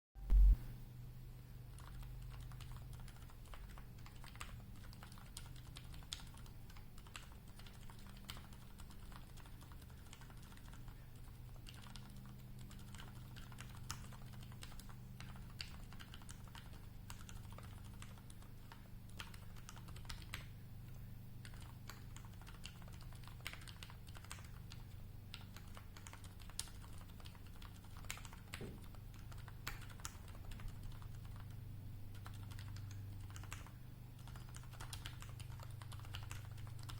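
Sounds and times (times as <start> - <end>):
steady low hum: 0.2 - 36.9
mechanical keyboard typing: 1.7 - 20.5, 21.4 - 36.9.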